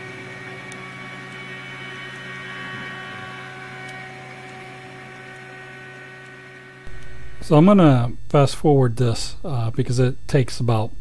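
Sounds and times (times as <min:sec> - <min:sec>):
stepper motor whine: 0:00.0 - 0:11.0.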